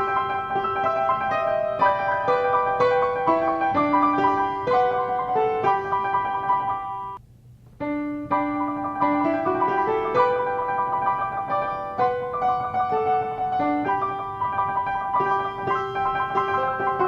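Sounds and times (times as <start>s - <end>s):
solo piano melody: 0.0s - 7.2s, 7.8s - 17.0s.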